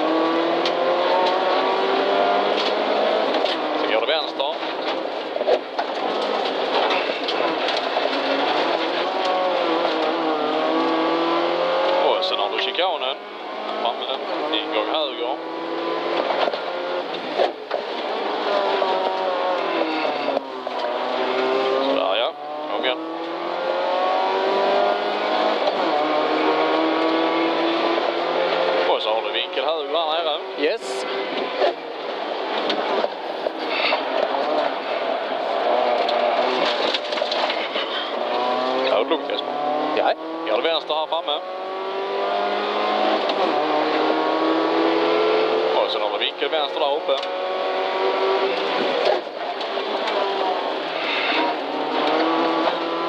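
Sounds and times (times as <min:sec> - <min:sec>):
rally car engine from cabin: 0:00.0 - 0:53.0
road noise: 0:00.0 - 0:53.0.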